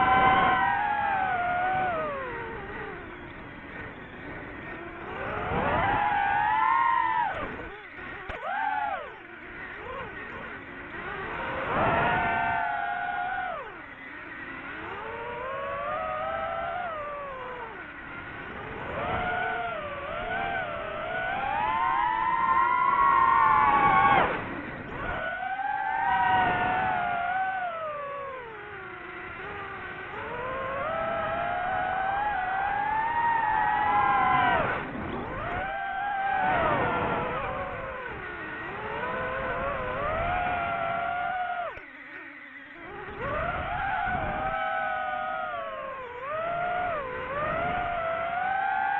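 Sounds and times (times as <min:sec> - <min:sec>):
drone motors whining: 0:00.0 - 0:48.9.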